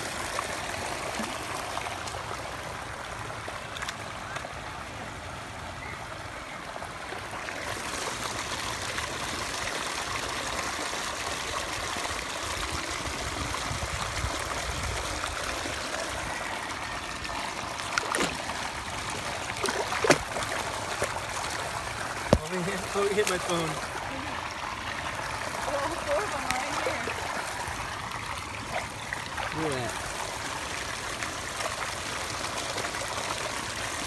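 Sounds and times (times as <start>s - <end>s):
running and trickling water: 0.0s - 34.0s.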